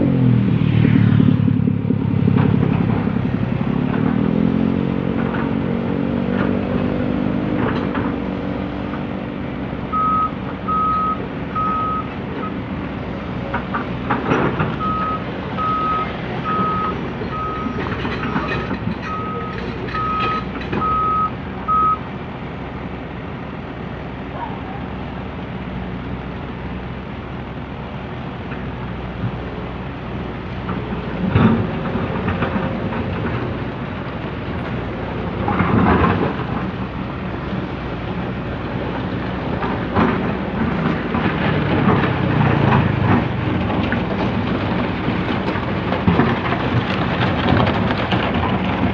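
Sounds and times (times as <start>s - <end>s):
excavator running: 0.0s - 48.9s.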